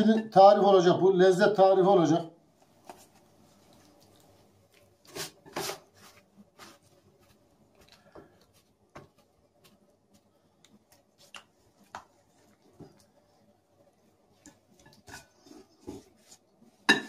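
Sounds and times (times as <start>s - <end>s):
hands rustling chicken in flour: 2.7s - 16.8s.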